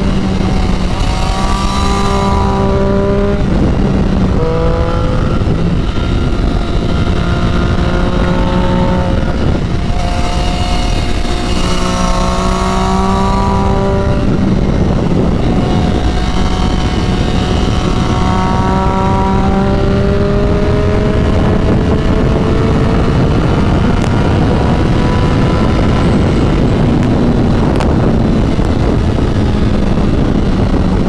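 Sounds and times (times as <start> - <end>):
motorcycle engine revving: 0.0 - 31.0
wind rush over microphone: 0.0 - 31.0.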